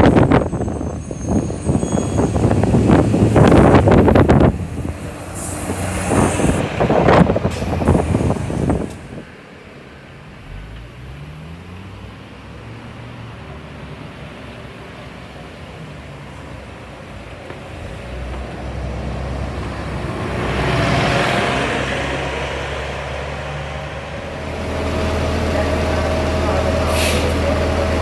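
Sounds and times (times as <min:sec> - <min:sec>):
bus accelerating: 0:00.0 - 0:28.0
bus passing close by: 0:00.0 - 0:28.0.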